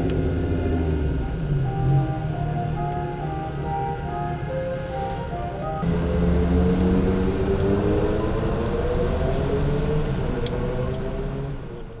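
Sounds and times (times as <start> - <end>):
car engine from inside cabin: 0.0 - 12.0
road noise: 0.0 - 12.0.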